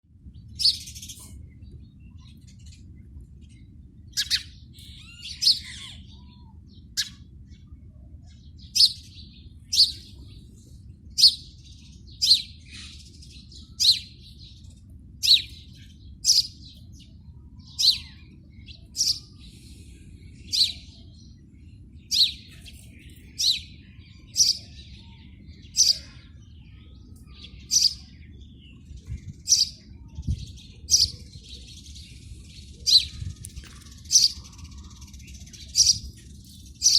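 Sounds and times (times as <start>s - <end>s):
sparrow chirping: 0.3s - 36.9s.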